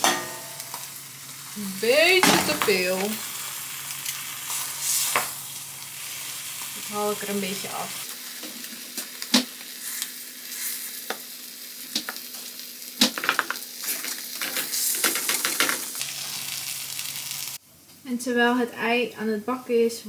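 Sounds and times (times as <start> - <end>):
food sizzling in a pan: 0.0 - 18.2.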